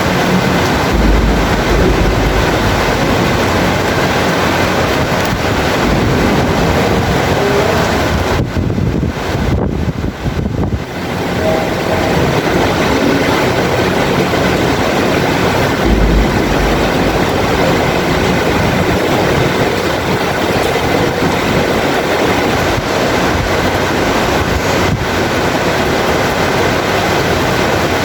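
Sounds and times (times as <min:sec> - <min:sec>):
low rumble of thunder: 0:00.0 - 0:26.0
heavy rain falling: 0:00.0 - 0:28.0.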